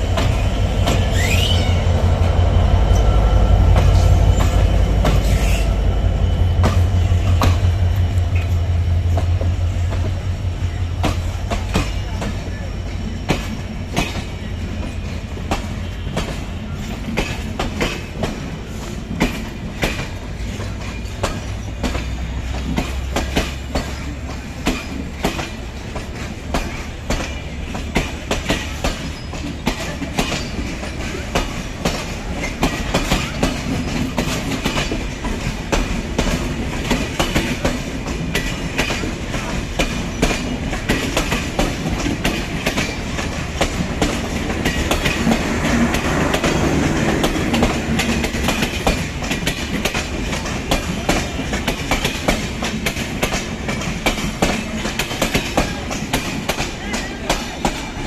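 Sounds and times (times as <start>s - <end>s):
train low rumble: 0.0s - 58.0s
train wheels clattering over rail joints: 0.0s - 58.0s.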